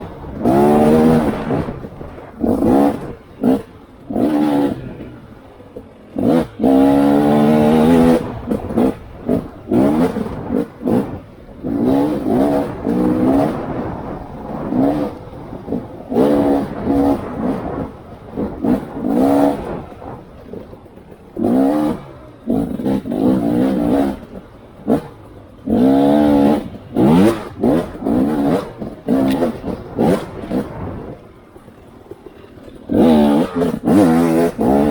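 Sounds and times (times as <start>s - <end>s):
off-road vehicle engine revving: 0.0s - 34.9s.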